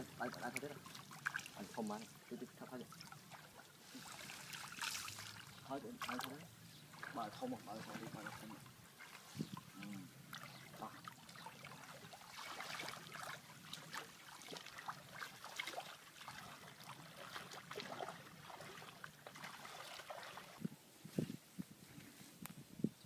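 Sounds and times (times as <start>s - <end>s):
water splashing and trickling: 0.0s - 20.7s.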